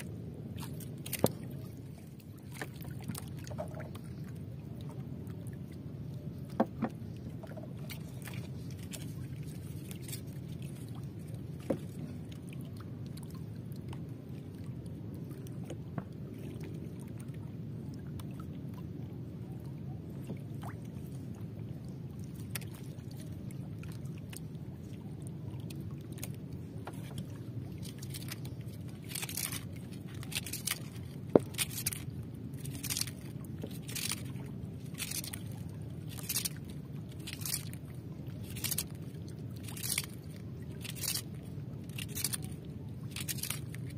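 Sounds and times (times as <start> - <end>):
water washing against hull: 0.0 - 43.9.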